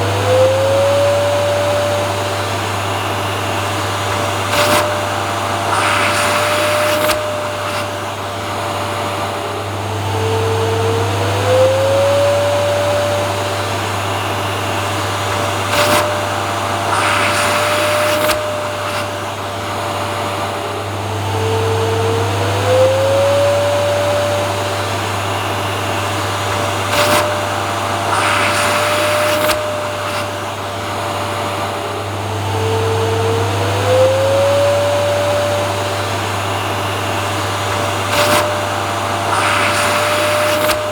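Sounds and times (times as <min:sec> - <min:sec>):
vacuum cleaner motor running: 0:00.0 - 0:40.9
airy hiss: 0:01.0 - 0:09.8, 0:10.6 - 0:21.0, 0:22.7 - 0:40.9.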